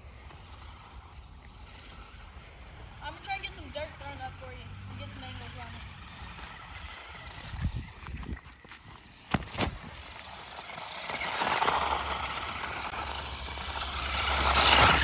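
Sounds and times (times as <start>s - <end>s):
rc car driving on dirt: 0.0s - 15.0s.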